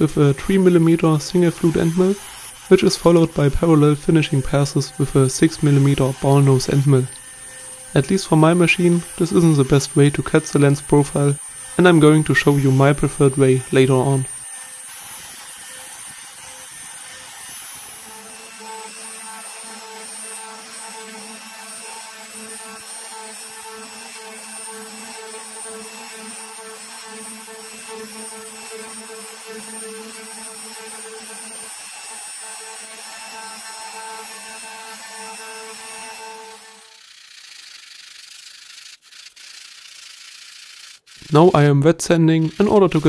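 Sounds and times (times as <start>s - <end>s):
router spindle whining: 0.0s - 43.0s.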